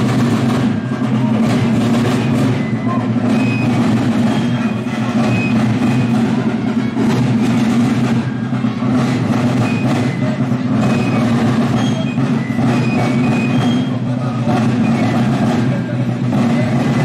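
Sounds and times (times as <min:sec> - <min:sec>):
drum beats: 0:00.0 - 0:17.0.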